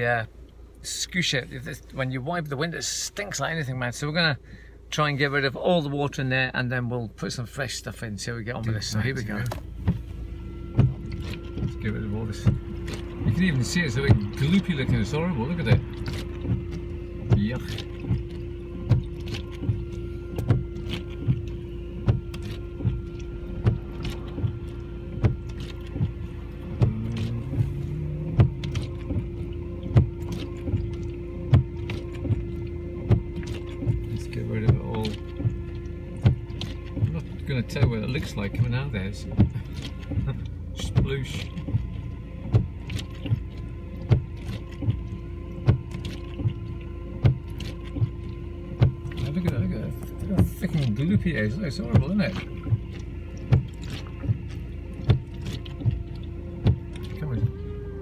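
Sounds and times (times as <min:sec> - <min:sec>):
car idling rumble: 0:00.0 - 0:58.0
steady hum: 0:00.0 - 0:58.0
windscreen washer pump whining: 0:00.0 - 0:58.0
wiper arms knocking: 0:09.5 - 0:57.8.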